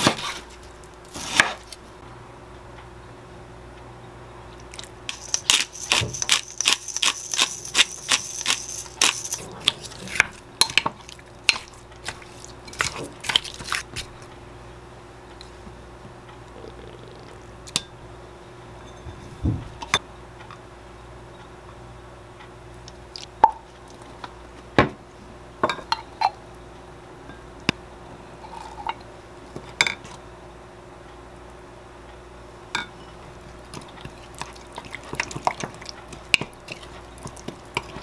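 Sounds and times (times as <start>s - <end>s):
faint appliance hum: 0.0s - 38.0s.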